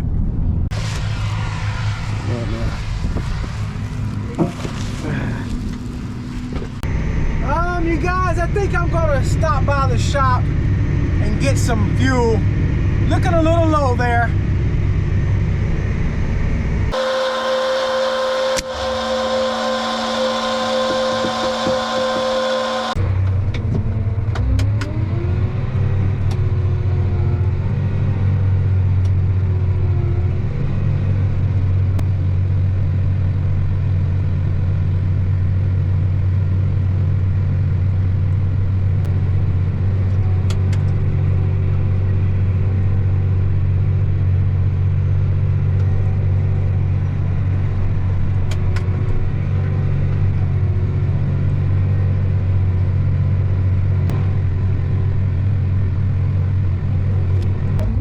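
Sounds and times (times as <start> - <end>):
vehicle engine droning: 0.0 - 58.0.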